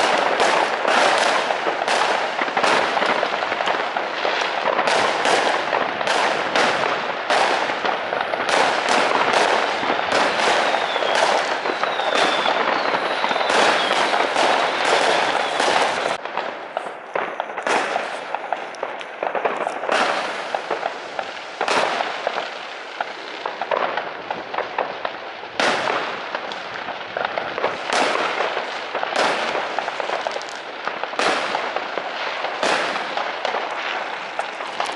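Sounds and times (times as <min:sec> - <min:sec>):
fireworks bangs and crackle: 0:00.0 - 0:34.9.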